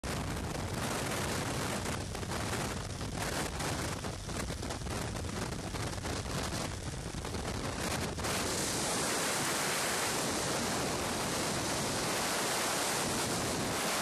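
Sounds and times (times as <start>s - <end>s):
wind buffeting microphone: 0.0s - 14.0s
plane engine: 0.3s - 14.0s.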